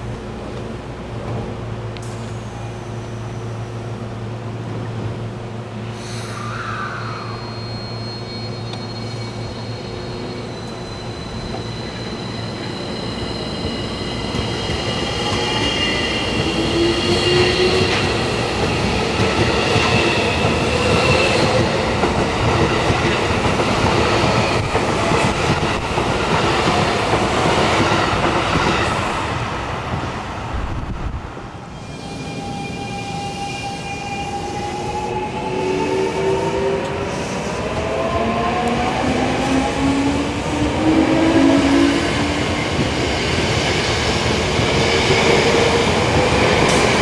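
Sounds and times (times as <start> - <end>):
train inverter whine: 0.0 - 47.0
wheels rumbling on rail: 0.0 - 47.0.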